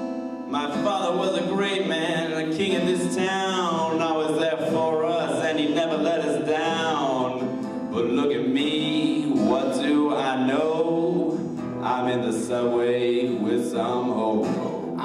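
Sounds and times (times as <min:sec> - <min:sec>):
acoustic guitar: 0:00.0 - 0:15.0
man singing: 0:00.5 - 0:15.0.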